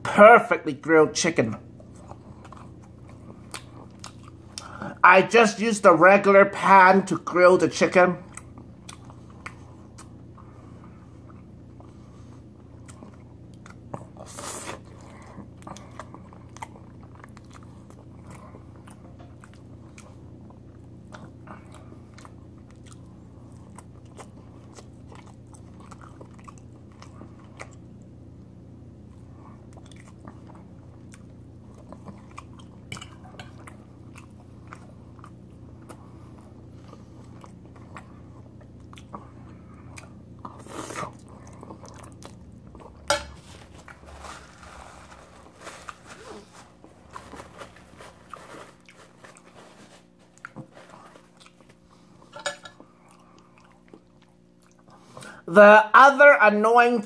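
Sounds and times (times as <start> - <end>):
person chewing food: 1.7 - 5.0, 8.2 - 55.4.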